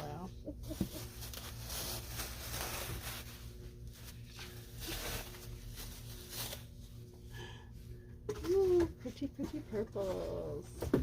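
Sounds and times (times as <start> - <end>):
fabric and packaging rustling: 0.0 - 7.3, 8.2 - 11.0
low steady hum: 0.0 - 11.0.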